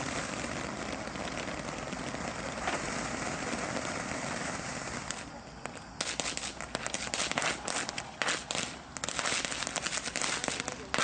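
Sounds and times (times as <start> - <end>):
fountain firework hissing: 0.0 - 11.0.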